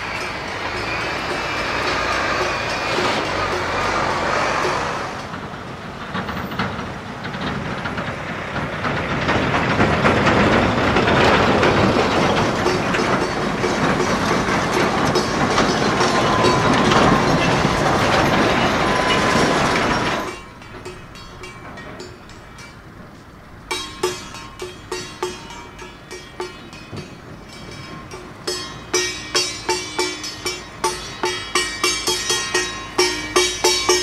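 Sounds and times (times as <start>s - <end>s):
heavy truck rumbling and rattling: 0.0s - 34.0s.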